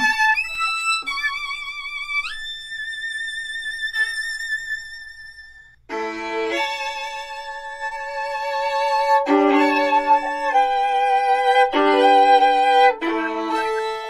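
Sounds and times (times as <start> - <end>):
violin playing bowed notes: 0.0 - 14.0.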